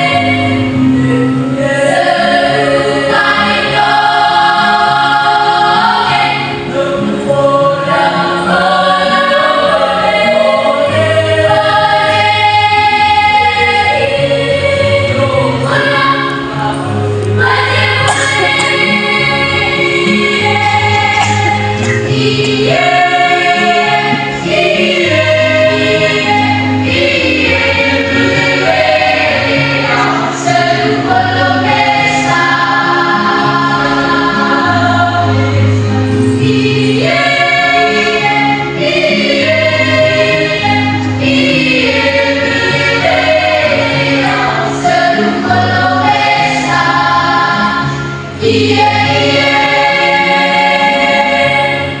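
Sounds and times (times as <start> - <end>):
choir singing: 0.0 - 52.0.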